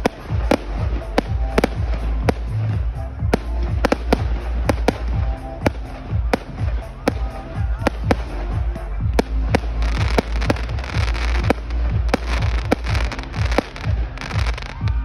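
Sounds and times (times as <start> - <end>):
fireworks bursting with bangs: 0.0 - 15.0.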